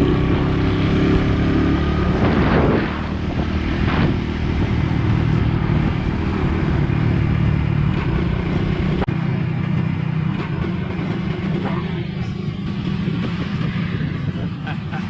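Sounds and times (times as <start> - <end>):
motorbike engine running: 0.0 - 15.0
wind and road noise: 0.0 - 15.0.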